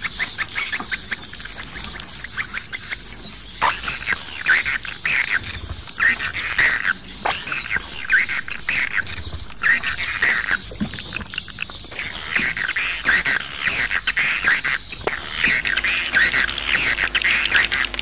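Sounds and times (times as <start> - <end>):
swiftlets twittering: 0.0 - 18.0.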